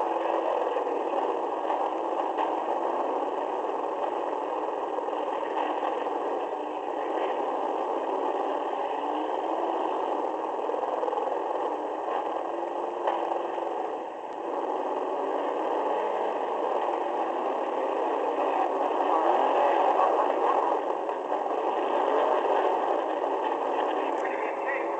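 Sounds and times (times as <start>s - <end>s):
car engine clattering and rattling: 0.0s - 24.9s.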